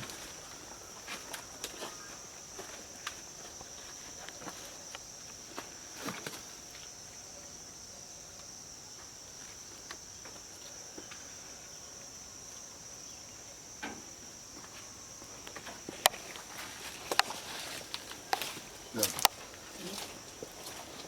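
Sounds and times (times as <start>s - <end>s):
insect chirring: 0.0s - 21.0s.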